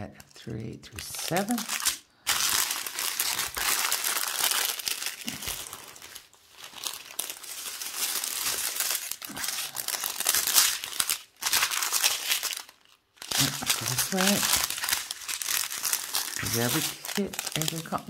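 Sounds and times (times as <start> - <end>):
plastic bags crinkling: 1.0 - 18.0.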